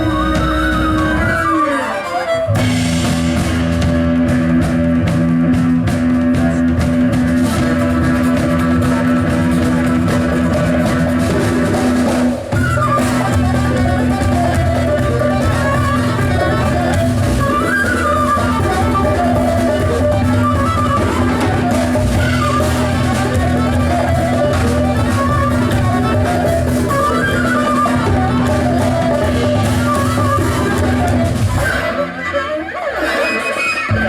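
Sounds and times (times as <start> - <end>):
bass line: 0.0 - 1.6, 2.5 - 32.2
drums: 0.0 - 34.0
live band music: 0.0 - 34.0.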